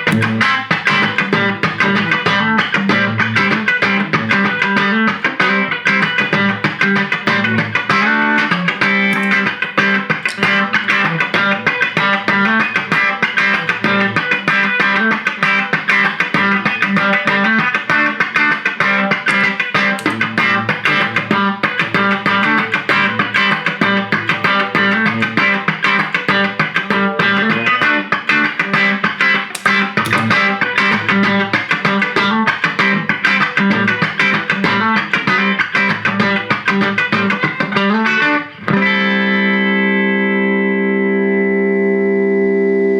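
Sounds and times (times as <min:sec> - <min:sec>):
electric guitar picking: 0:00.0 - 0:42.9.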